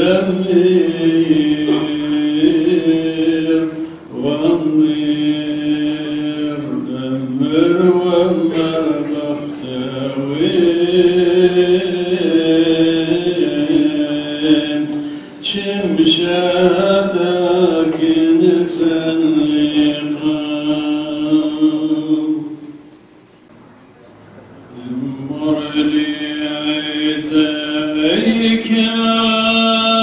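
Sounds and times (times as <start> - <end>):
liturgical church chant: 0.0 - 23.0, 24.7 - 30.0.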